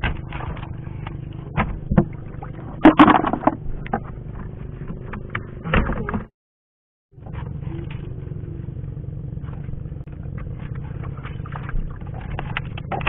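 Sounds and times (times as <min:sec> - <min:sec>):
low engine drone: 0:00.0 - 0:06.3, 0:07.2 - 0:13.0.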